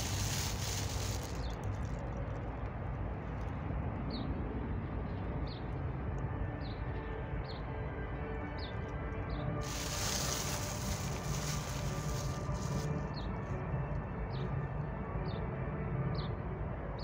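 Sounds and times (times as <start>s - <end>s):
distant city traffic rumble: 0.0s - 15.6s.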